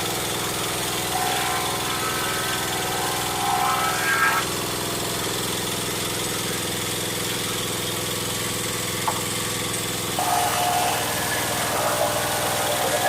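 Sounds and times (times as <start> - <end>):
wood planer machine droning: 0.0 - 13.0.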